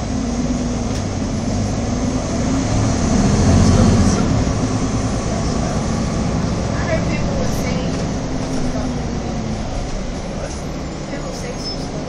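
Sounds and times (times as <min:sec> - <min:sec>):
bus engine running: 0:00.0 - 0:12.0
road rumble: 0:00.0 - 0:12.0.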